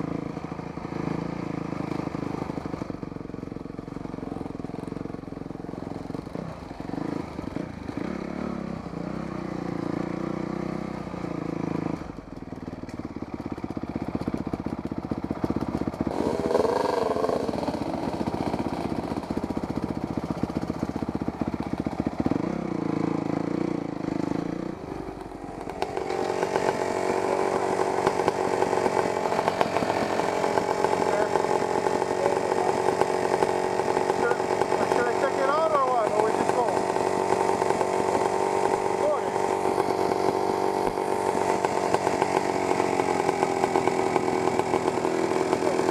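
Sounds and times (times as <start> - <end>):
dirt bike engines: 0.0 - 45.9.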